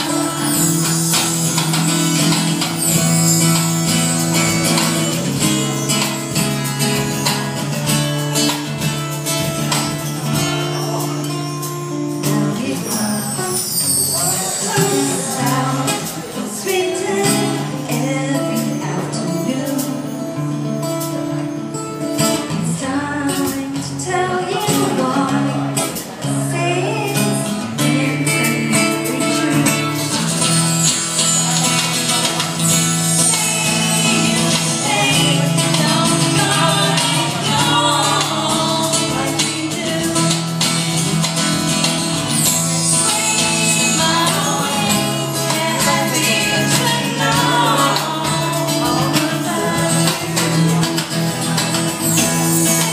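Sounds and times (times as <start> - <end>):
woman singing into microphone: 0.0 - 6.1, 10.3 - 21.6, 22.3 - 52.9
strummed acoustic guitar: 0.0 - 52.9.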